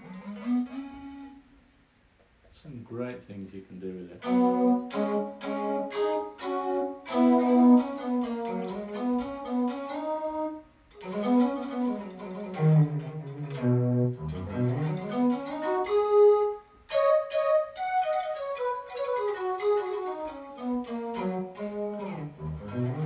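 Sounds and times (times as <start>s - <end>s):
synthesised melodic line: 4.2s - 23.0s.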